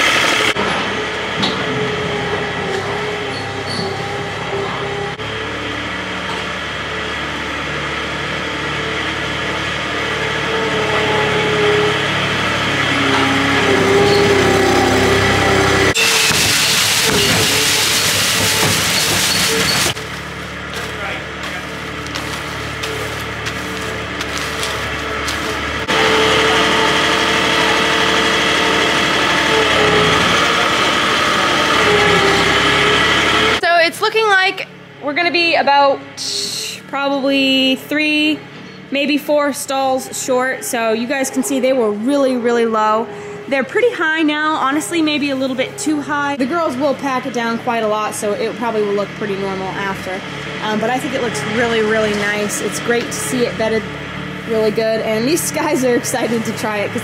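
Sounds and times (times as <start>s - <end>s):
loader engine running: 0.0s - 57.0s.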